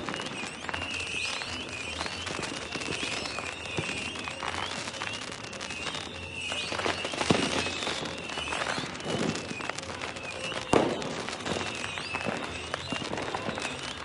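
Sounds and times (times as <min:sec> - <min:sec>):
fireworks crackling and popping: 0:00.0 - 0:14.0
fireworks whistling: 0:00.0 - 0:14.0
loud fireworks bangs: 0:00.0 - 0:14.0.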